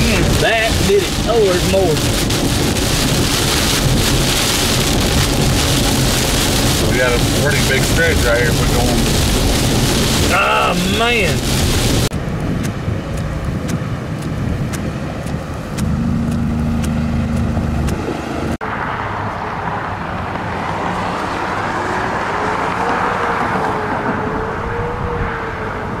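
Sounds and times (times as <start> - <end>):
car cabin road and engine noise: 0.0 - 26.0.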